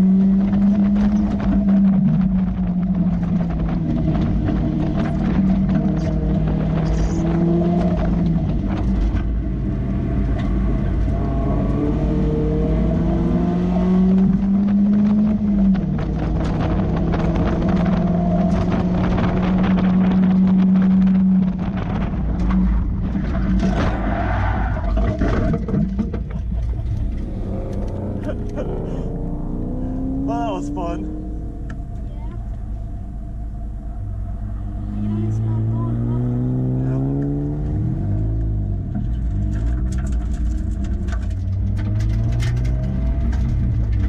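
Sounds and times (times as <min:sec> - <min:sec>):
car engine accelerating: 0:00.0 - 0:44.0
wind buffeting: 0:00.0 - 0:44.0.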